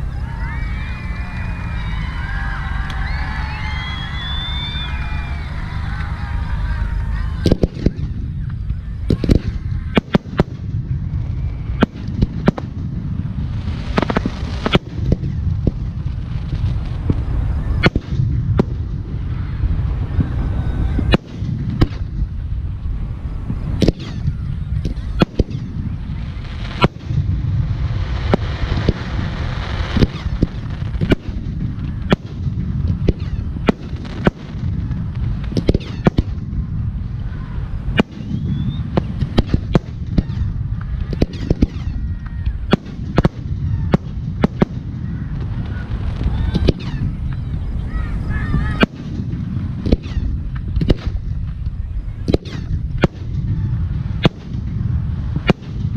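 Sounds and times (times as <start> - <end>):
fireworks bangs: 0.0 - 55.9
low rumble: 0.0 - 55.9.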